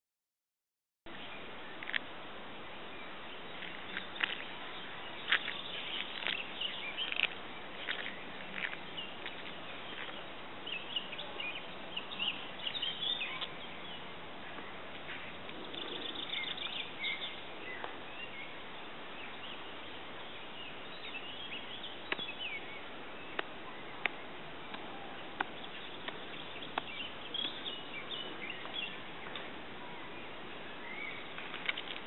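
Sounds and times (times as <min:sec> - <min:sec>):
steady background hiss: 0:01.1 - 0:32.0
small birds chirping: 0:02.8 - 0:32.0.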